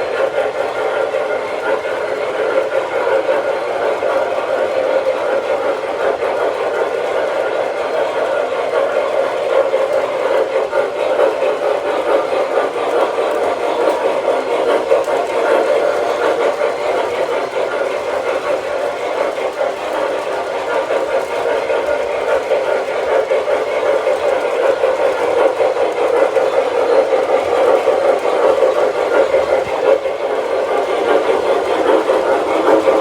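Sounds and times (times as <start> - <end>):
model train rumbling on track: 0.0 - 33.0.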